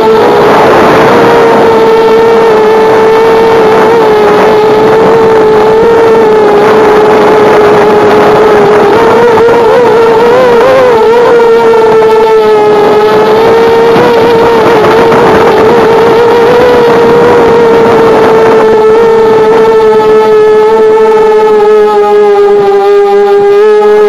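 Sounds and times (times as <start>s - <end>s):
electric motor and propeller whine: 0.0s - 24.0s.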